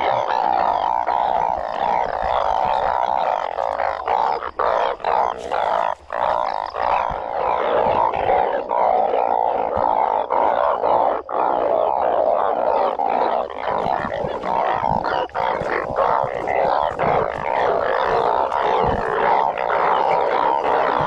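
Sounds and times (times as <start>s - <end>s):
chorus of frogs calling: 0.0s - 21.0s.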